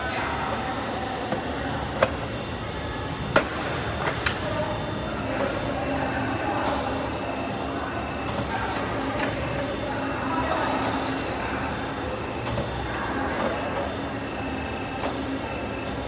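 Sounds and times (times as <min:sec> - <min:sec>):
machine running: 0:00.0 - 0:16.0.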